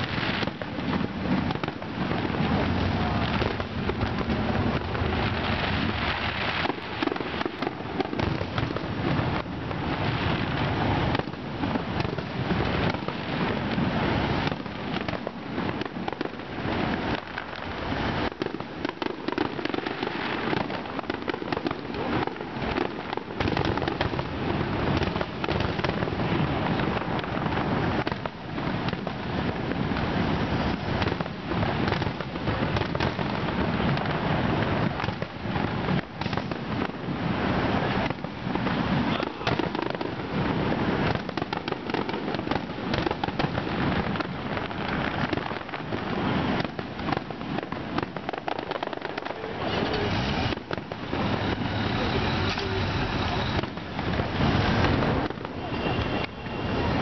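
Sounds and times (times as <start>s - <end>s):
fireworks bursts and bangs: 0.0s - 57.0s.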